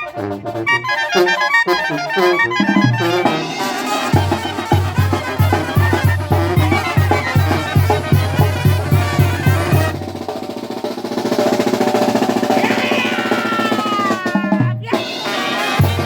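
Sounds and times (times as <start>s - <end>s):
brass band music: 0.0s - 16.0s
drum roll: 2.8s - 16.0s.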